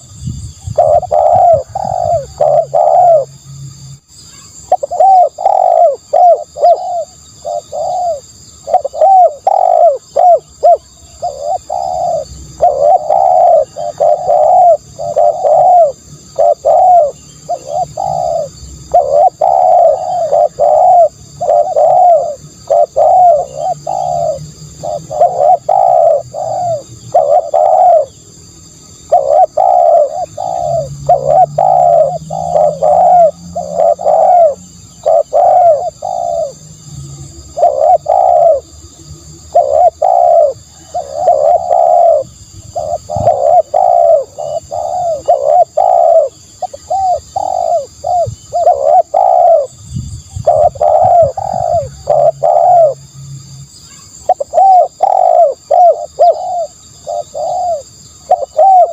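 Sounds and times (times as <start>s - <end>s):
dove cooing: 0.0s - 3.4s, 4.4s - 53.1s, 53.9s - 58.9s.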